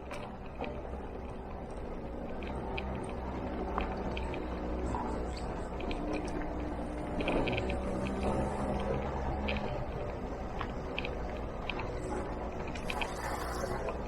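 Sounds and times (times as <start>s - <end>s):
light clicks and rattles: 0.0s - 14.0s
road and wind noise: 0.0s - 14.0s
scooter engine humming: 0.0s - 14.0s.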